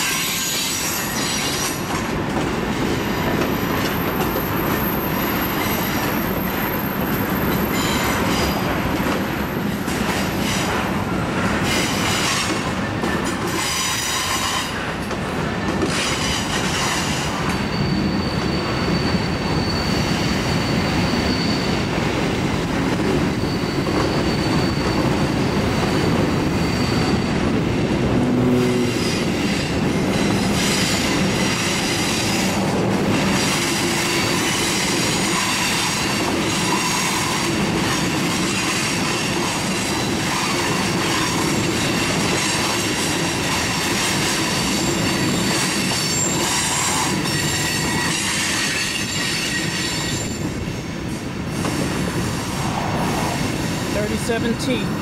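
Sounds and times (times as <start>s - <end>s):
train cars rumbling and clattering: 0.0s - 55.0s
train wheels squealing on rails: 0.0s - 55.0s.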